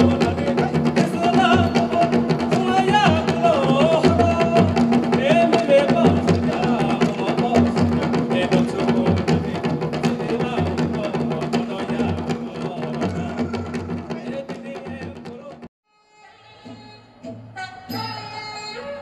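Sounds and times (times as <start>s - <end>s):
drum beating steady rhythm: 0.0s - 15.7s.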